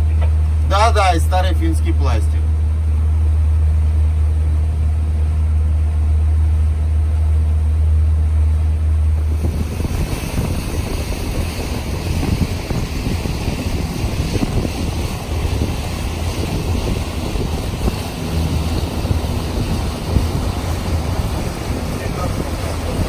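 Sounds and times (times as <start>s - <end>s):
motorboat engine drone: 0.0s - 23.0s
rushing wind and water: 0.0s - 23.0s.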